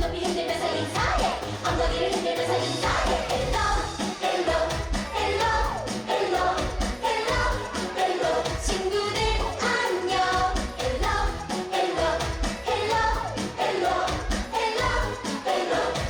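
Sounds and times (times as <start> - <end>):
upbeat children's pop song: 0.0 - 16.0.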